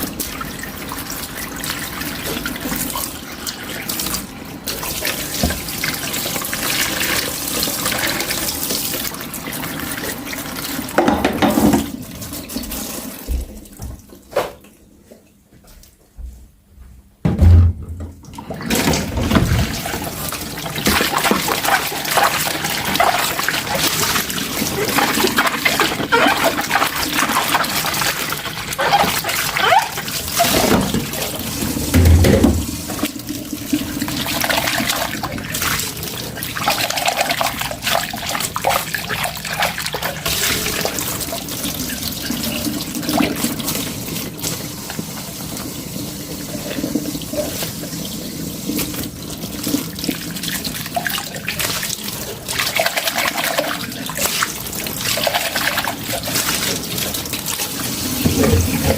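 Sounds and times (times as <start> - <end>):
tap water running into sink: 0.0 - 14.6, 17.3 - 58.9.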